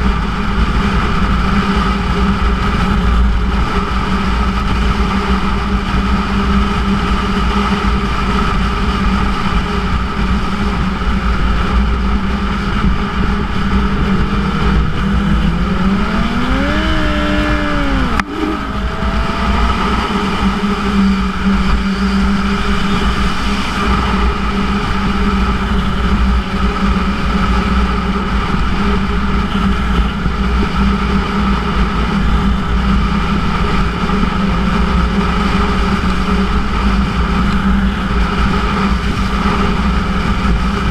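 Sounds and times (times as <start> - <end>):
motorcycle engine running: 0.0 - 40.9
rush of wind: 0.0 - 40.9.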